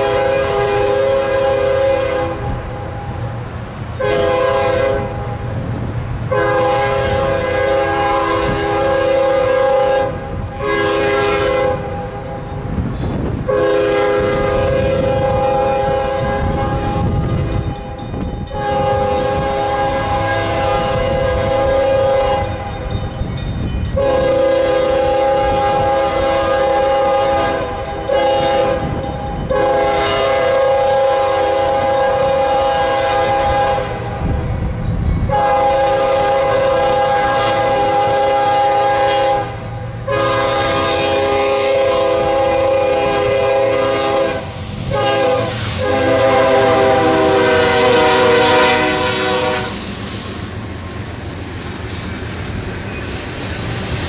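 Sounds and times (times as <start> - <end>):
locomotive air horn blasts: 0.0 - 3.2, 4.0 - 5.5, 6.3 - 22.9, 24.0 - 34.4, 35.3 - 50.0
train rumble: 0.0 - 54.0.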